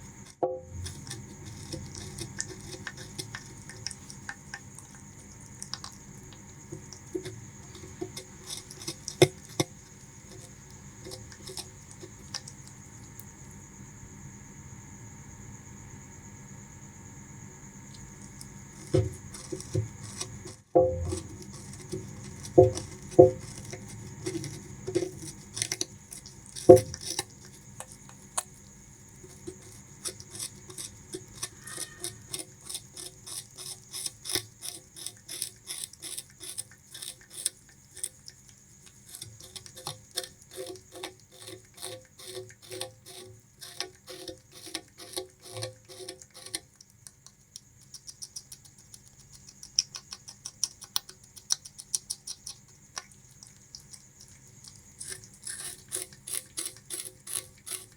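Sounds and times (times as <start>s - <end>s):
rat chewing sugarcane: 0.0s - 57.9s.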